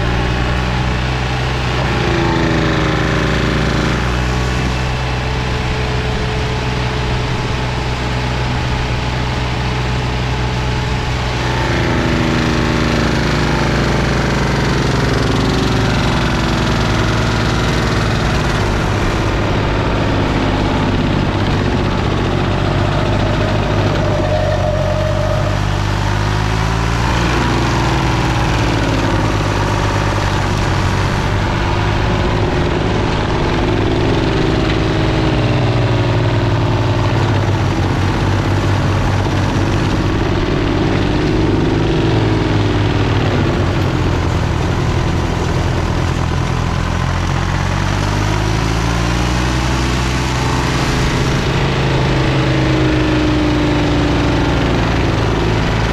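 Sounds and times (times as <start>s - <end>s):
mower engine running hard: 0.0s - 55.9s.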